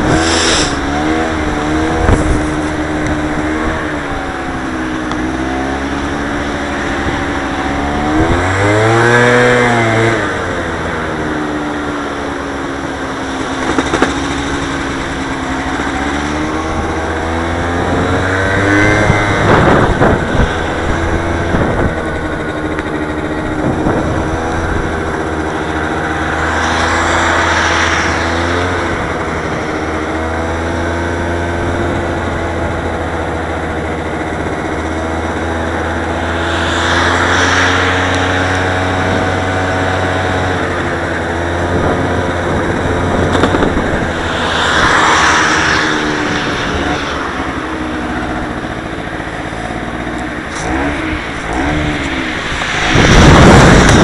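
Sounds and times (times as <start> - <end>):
cars passing: 0.0 - 54.0
scooter engine running: 0.0 - 54.0
wind on microphone: 0.0 - 54.0.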